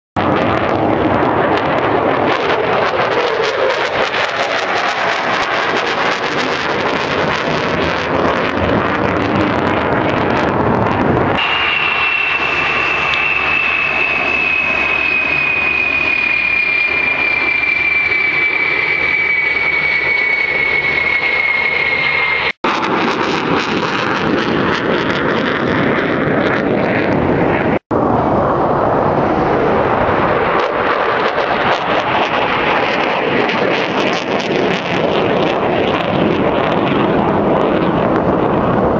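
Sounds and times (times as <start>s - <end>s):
jet engine whine: 0.2s - 38.9s
jet noise overhead: 0.2s - 38.9s.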